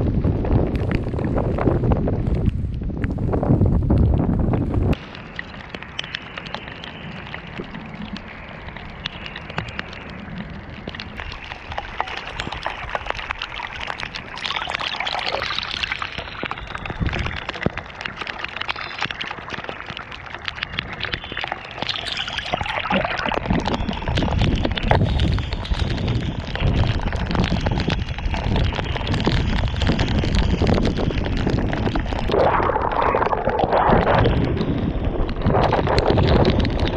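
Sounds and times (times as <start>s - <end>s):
skate wheels rolling through mud: 0.0s - 36.9s
wind rumbling on microphone: 0.0s - 36.9s.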